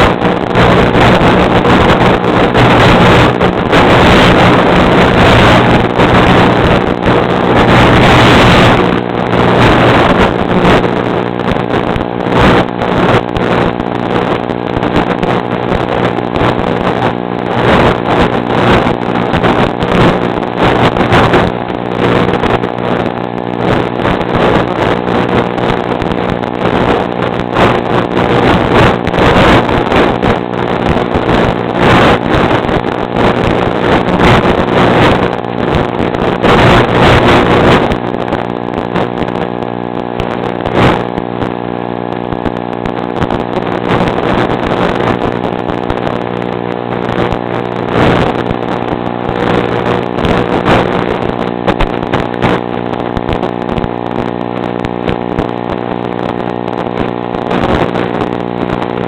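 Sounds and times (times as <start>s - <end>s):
wind buffeting microphone: 0.0s - 55.6s.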